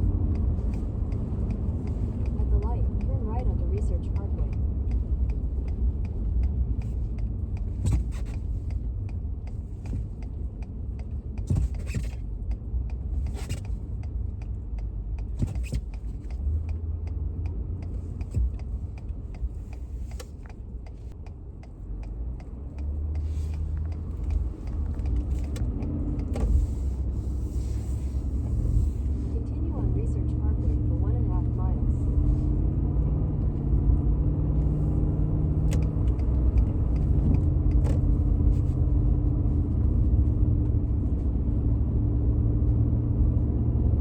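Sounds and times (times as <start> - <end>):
engine and road rumble: 0.0 - 44.0.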